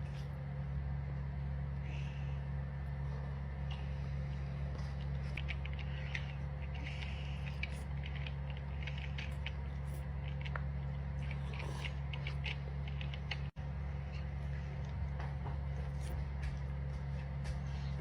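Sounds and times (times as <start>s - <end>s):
chewing spaghetti: 0.0s - 18.0s
steady low hum: 0.0s - 18.0s.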